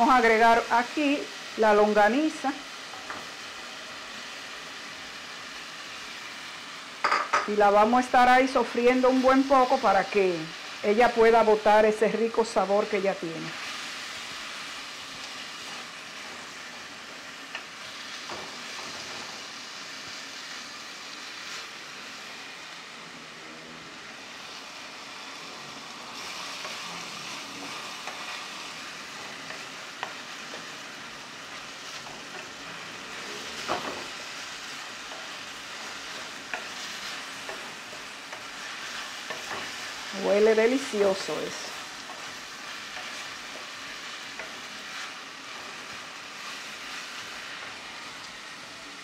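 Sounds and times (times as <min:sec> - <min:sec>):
sausage sizzling in hot oil: 0:00.0 - 0:49.0.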